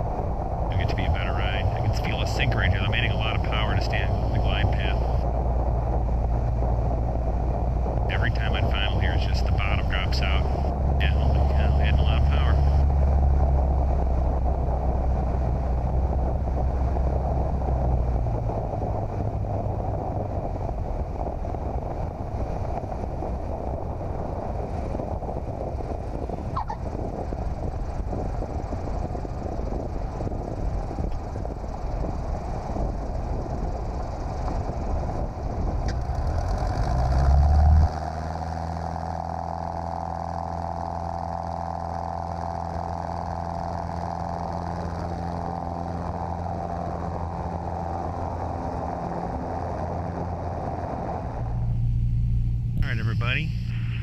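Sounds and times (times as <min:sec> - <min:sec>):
airplane engine: 0:00.0 - 0:54.0
rumble of airflow: 0:00.0 - 0:54.0.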